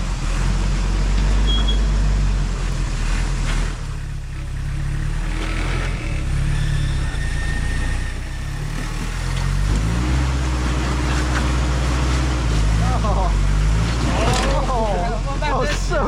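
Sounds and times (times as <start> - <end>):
off-road vehicle engine under load: 0.0 - 16.0.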